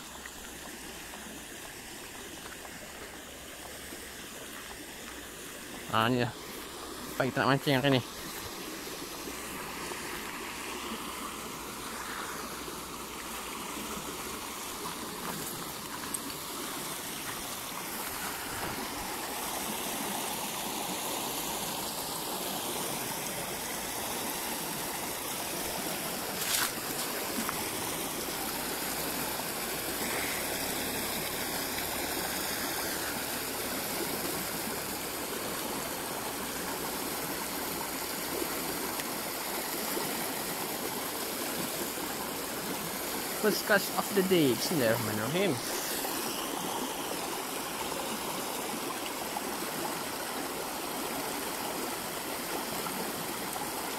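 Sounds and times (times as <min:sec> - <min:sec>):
water rushing in ditch: 0:00.0 - 0:53.9.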